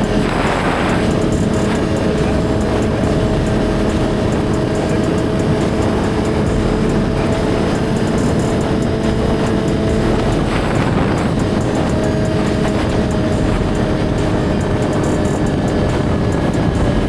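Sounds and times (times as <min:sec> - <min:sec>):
motorcycle engine running steadily: 0:00.0 - 0:17.0
road noise: 0:00.0 - 0:17.0
rushing wind: 0:00.0 - 0:17.0.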